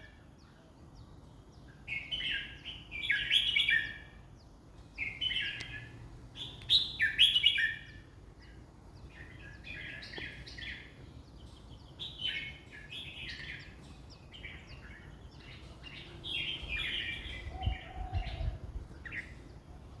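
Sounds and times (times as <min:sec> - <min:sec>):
bird singing warbled phrases: 0:00.0 - 0:20.0.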